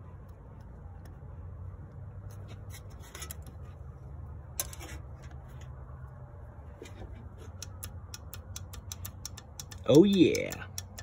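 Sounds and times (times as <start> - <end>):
low steady hum: 0.0 - 11.0
clicks and scrapes of handling wire: 0.2 - 11.0.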